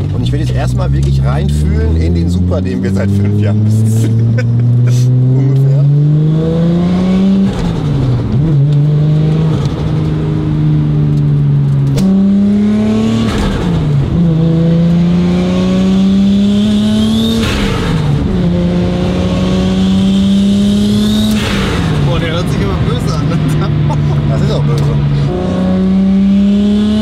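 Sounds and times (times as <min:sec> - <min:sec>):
car engine revving through gears: 0:00.0 - 0:27.0.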